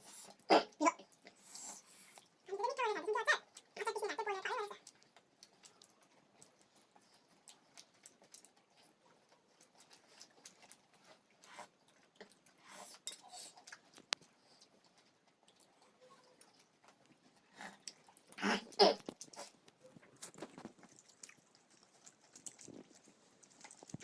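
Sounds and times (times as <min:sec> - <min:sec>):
soft chewing: 0:00.0 - 0:24.0.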